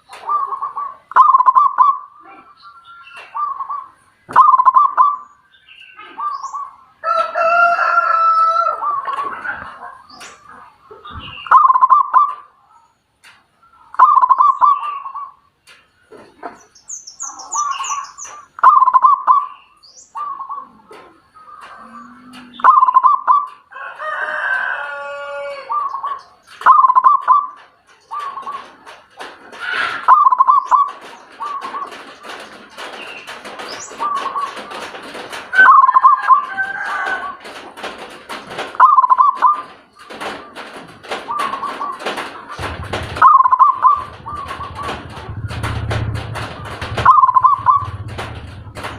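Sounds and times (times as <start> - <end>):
bird calling: 0.0 - 7.0, 8.5 - 13.0, 13.6 - 23.6, 24.9 - 34.9, 35.5 - 37.4, 38.7 - 48.9.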